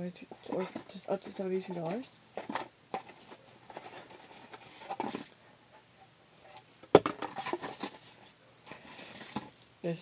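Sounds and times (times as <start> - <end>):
packets clicking and rustling: 0.4 - 5.4, 6.5 - 9.6.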